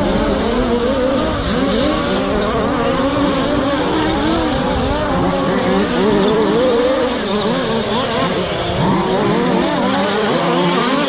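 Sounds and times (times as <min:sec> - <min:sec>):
rc car engines revving: 0:00.0 - 0:11.0.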